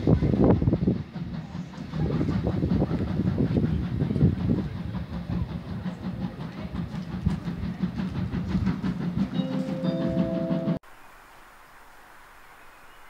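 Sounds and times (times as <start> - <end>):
steam locomotive exhaust beats: 0.0 - 10.8.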